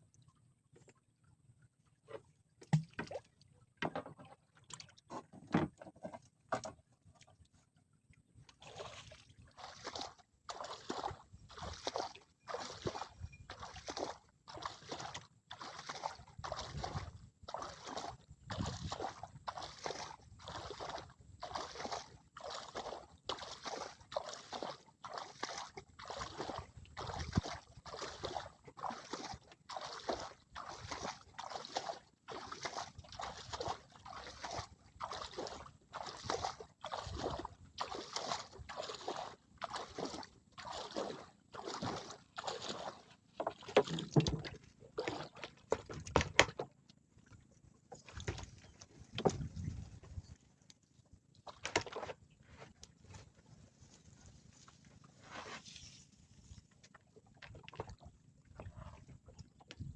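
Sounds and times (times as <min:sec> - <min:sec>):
rhythmic sloshing in water: 0:00.0 - 0:59.9.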